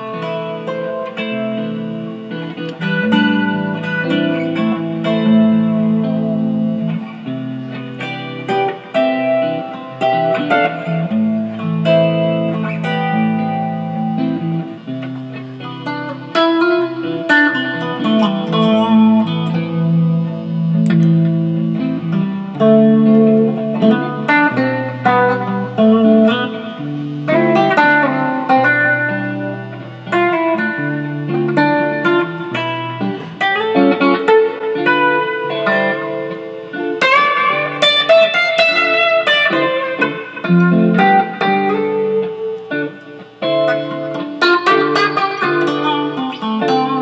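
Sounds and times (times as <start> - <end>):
electric guitar notes and chords: 0.0 - 47.0.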